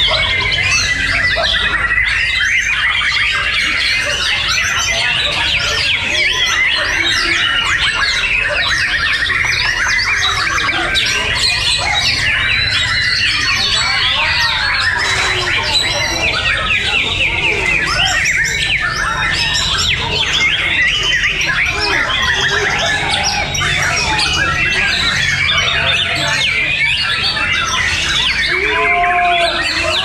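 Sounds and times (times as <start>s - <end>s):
chorus of birds singing: 0.0s - 30.0s.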